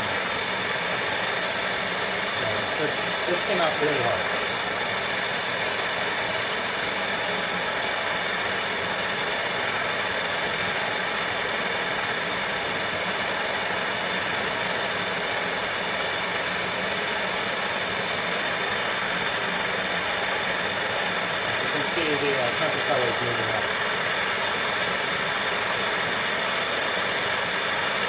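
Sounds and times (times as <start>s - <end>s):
gas torch hissing: 0.0s - 28.0s.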